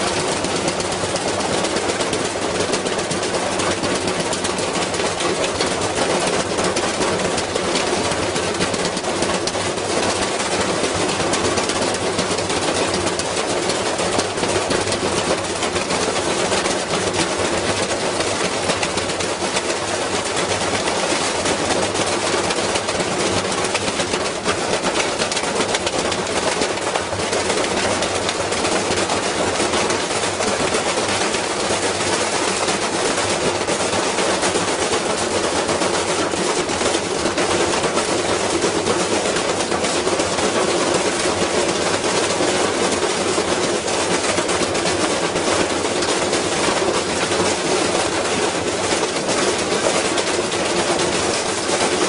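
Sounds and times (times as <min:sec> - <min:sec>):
washing machine spinning: 0:00.0 - 0:52.0.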